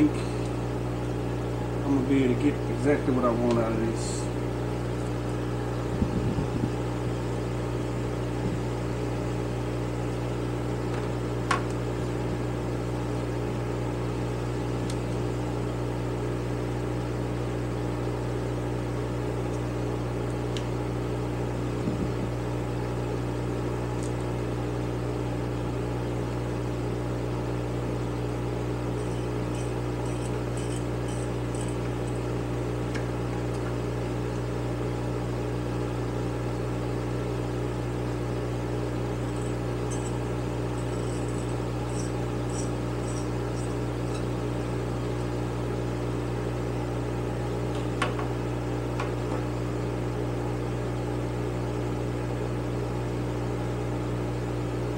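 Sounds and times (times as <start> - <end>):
fan motor humming: 0.0 - 51.8.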